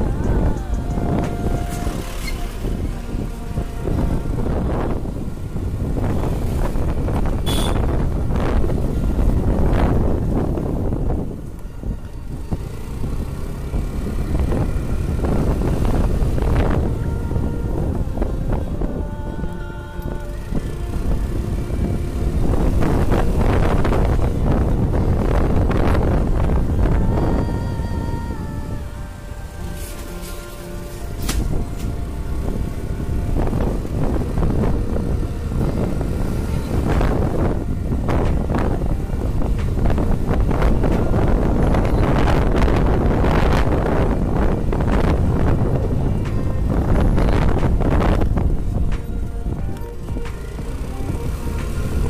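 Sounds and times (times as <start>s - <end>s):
motorcycle engine rumble: 0.0s - 52.0s
road noise: 0.0s - 52.0s
wind buffeting microphone: 0.0s - 52.0s.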